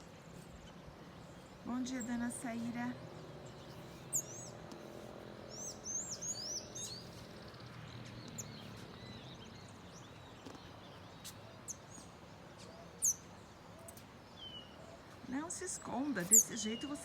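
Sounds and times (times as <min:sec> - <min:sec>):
outdoor background noise: 0:00.0 - 0:17.0
songbird chirps: 0:00.0 - 0:17.0.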